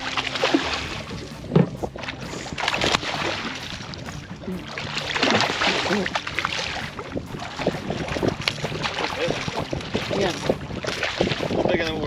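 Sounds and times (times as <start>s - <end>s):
fish thrashing splashing water: 0.0s - 11.8s.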